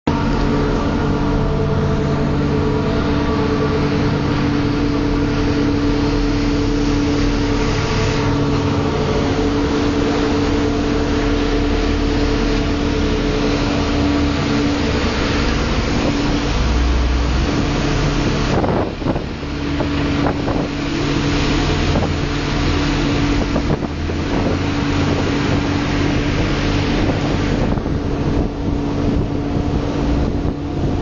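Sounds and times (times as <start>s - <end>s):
wind: 0.0s - 31.0s
boat engines droning: 0.1s - 31.0s
wake water rushing: 0.1s - 31.0s.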